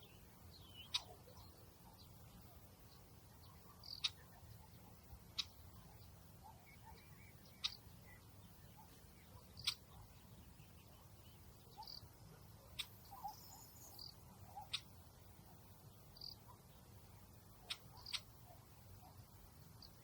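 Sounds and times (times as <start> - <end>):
quiet chirps: 0.0 - 20.0
soft steady hiss: 0.0 - 20.0.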